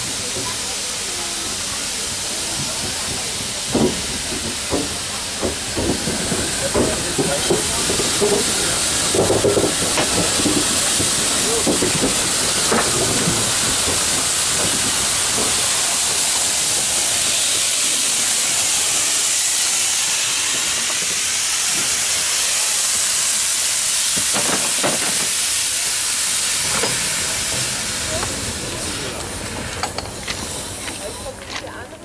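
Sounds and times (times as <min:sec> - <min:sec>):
steam locomotive hissing steam: 0:00.0 - 0:32.0.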